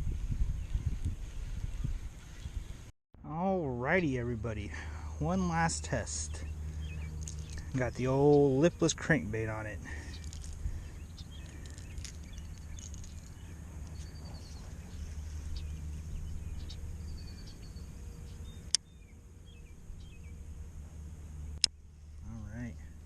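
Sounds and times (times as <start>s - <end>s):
low steady rumble: 0.0s - 23.0s
small birds chirping: 0.1s - 2.9s, 4.0s - 23.0s.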